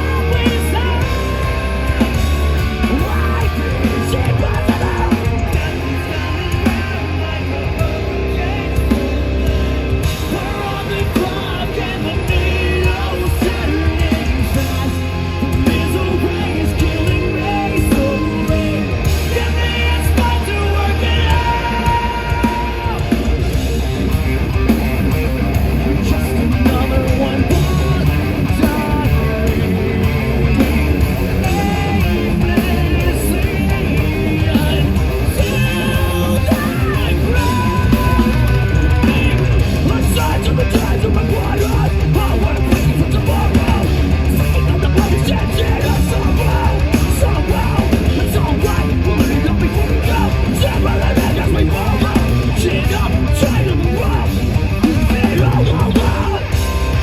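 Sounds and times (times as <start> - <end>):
metal band playing live: 0.0 - 57.0
person singing: 0.0 - 57.0.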